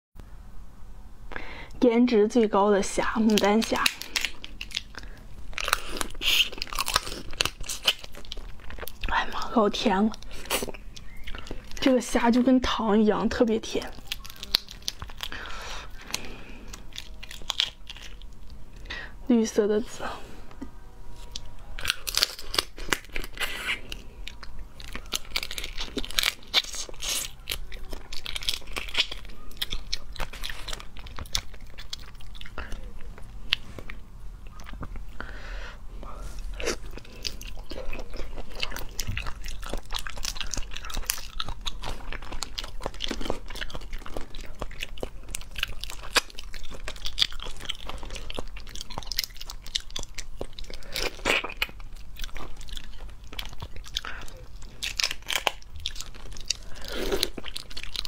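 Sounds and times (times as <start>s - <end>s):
close chewing with wet smacks: 3.0s - 18.6s, 21.3s - 35.2s, 36.4s - 58.0s.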